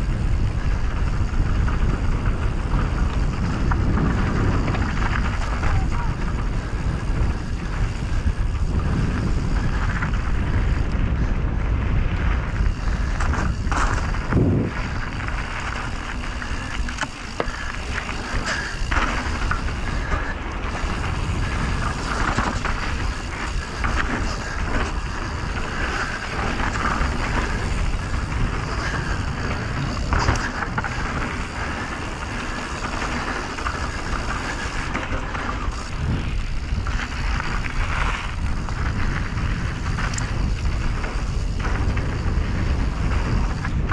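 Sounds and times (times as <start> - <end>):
bike chain and frame rattling: 0.0 - 43.9
tyres rolling over dirt: 0.0 - 43.9
wind buffeting microphone: 0.0 - 43.9.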